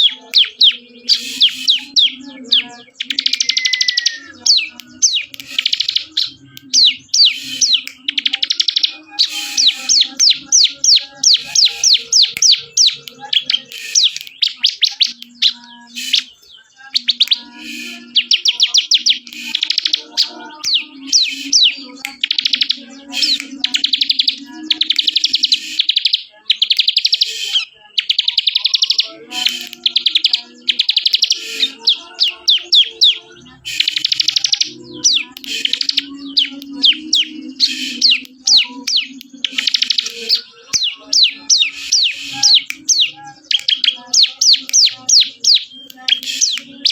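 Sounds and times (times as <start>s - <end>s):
bird singing chattering trills: 0.0s - 46.9s.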